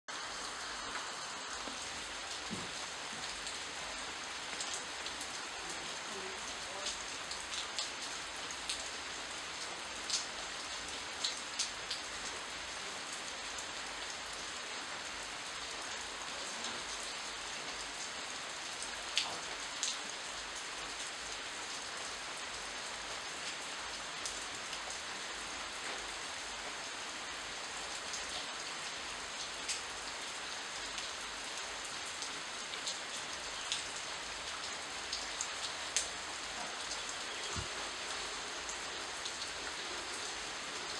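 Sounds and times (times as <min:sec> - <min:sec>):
rain falling on leaves: 0:00.1 - 0:40.9.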